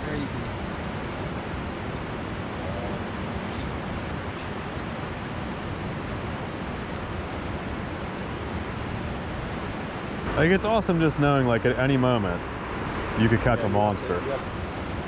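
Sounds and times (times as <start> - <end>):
river white water rushing: 0.0 - 11.1, 12.4 - 15.0.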